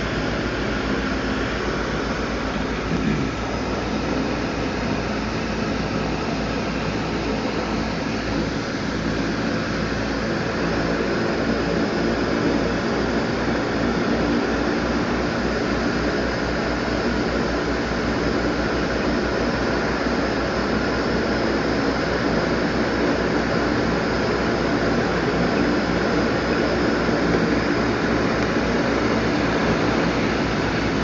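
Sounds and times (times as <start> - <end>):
plane engines droning: 0.0 - 31.0.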